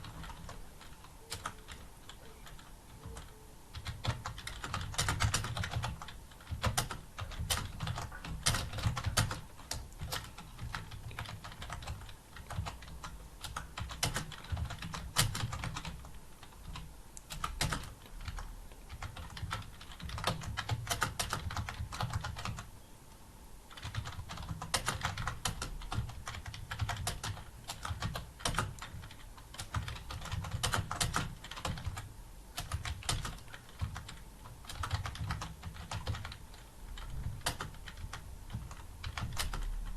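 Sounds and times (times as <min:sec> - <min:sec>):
fast typing on keyboard: 0:00.0 - 0:22.7, 0:23.7 - 0:39.9.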